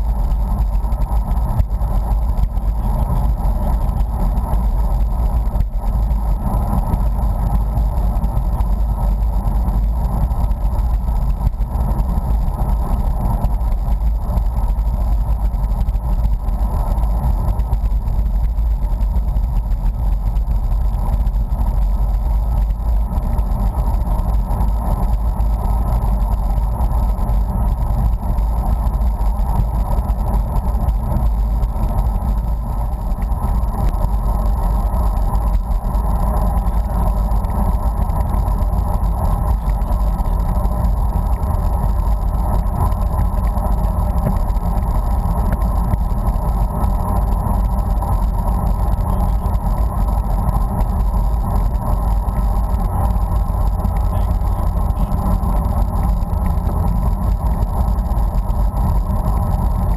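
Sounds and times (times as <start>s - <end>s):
road rumble: 0.0s - 15.6s, 16.5s - 59.9s
wind rush on microphone: 0.0s - 59.9s.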